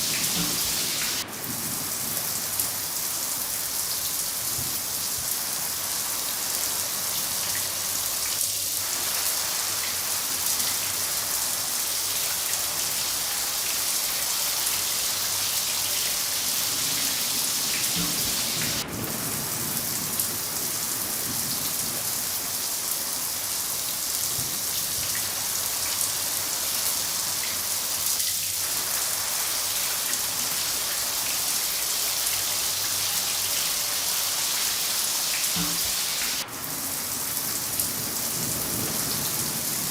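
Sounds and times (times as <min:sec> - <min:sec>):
rain pouring down: 0:00.0 - 0:39.9.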